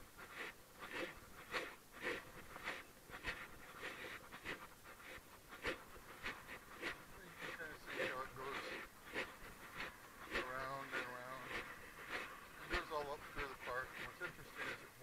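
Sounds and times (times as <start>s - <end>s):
footsteps: 0.0s - 15.0s
person breathing hard: 0.2s - 15.0s.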